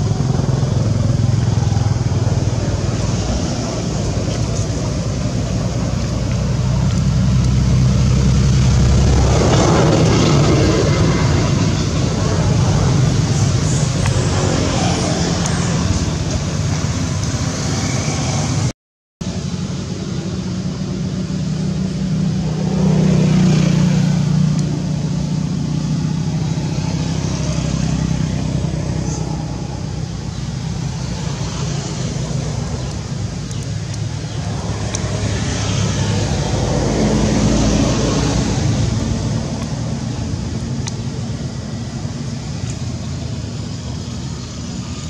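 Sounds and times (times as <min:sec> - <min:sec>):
road traffic hum: 0:00.0 - 0:45.0
vehicles passing: 0:00.0 - 0:45.0.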